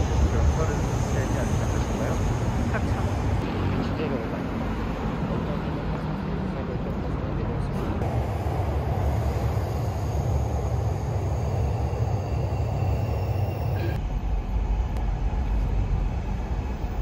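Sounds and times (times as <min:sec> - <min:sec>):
faint high whine: 0:00.0 - 0:04.7, 0:08.0 - 0:17.0
train rumbling: 0:00.0 - 0:17.0.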